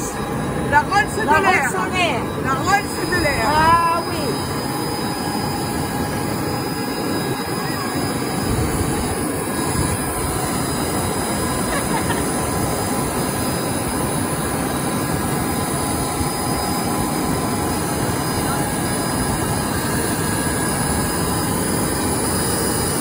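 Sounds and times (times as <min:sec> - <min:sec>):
faint high whine: 0:00.0 - 0:23.0
jet turbine noise: 0:00.0 - 0:23.0
wind rumbling on microphone: 0:02.6 - 0:22.2.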